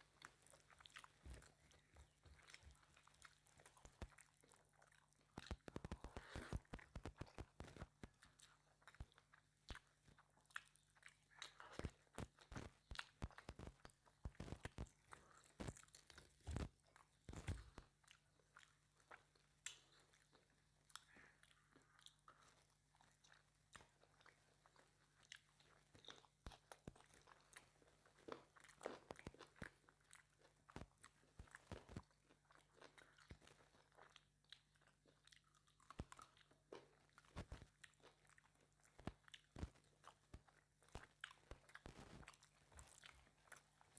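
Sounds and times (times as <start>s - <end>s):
close chewing and crunching: 0.0s - 43.9s.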